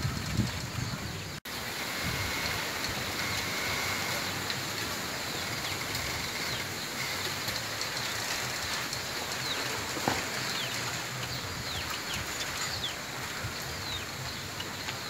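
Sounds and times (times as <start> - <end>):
wind rustling bamboo leaves: 0.0 - 15.0.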